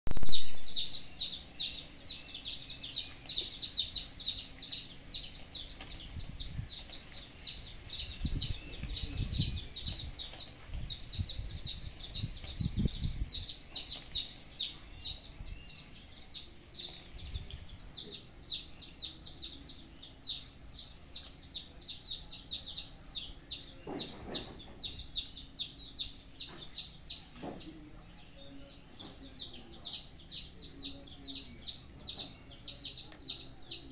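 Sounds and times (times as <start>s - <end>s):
bird chirping: 0.1s - 33.9s.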